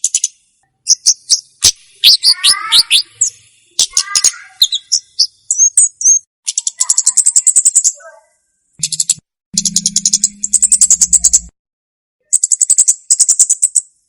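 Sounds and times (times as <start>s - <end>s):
songbird singing: 0.0s - 11.5s, 12.2s - 14.0s.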